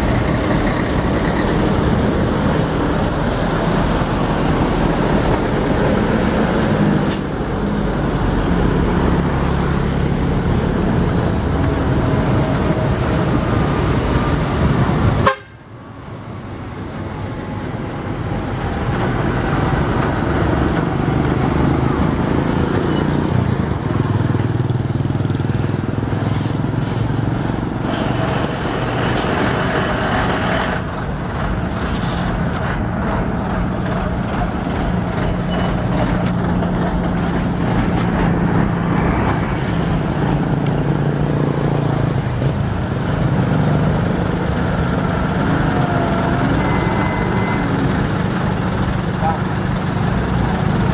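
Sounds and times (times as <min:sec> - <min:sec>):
diesel truck engines under load: 0:00.0 - 0:50.9.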